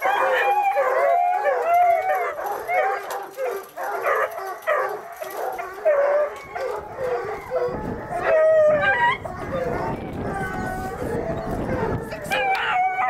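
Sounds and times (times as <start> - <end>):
puppies barking and yipping: 0.0 - 13.0
puppy howling: 0.0 - 13.0.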